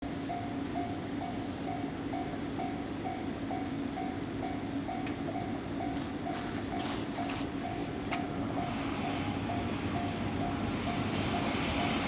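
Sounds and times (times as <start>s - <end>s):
level-crossing warning bell: 0.1s - 12.0s.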